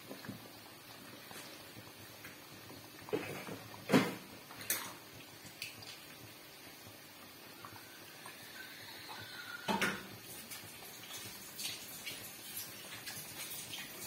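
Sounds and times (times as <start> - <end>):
dough deep-frying sizzle: 0.0 - 14.0.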